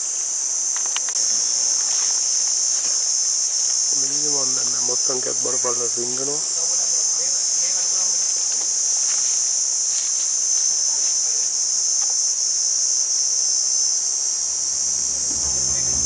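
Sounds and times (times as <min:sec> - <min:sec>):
insects droning shrilly: 0:00.0 - 0:16.0.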